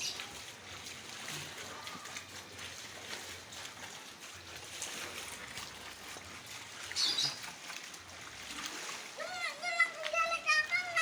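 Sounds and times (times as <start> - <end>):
water trickling and sloshing: 0.0 - 11.0.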